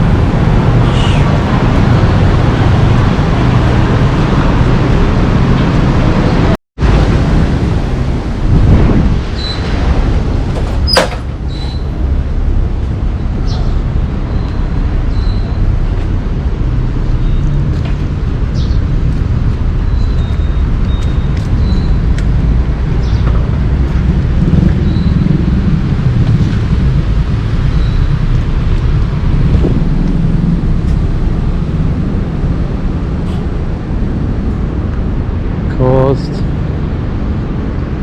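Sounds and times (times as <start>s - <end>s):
buses running: 0.0s - 38.0s
road traffic rumble: 0.0s - 38.0s.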